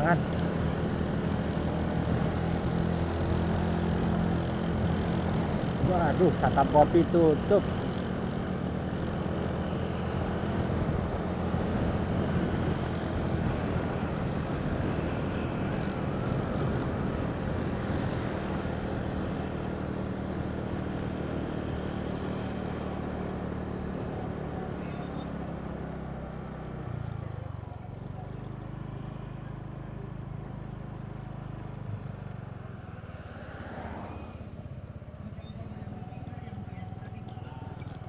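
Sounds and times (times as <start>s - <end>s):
motorcycle engine running: 0.0s - 33.0s, 34.3s - 38.0s
wind and road noise: 0.0s - 38.0s.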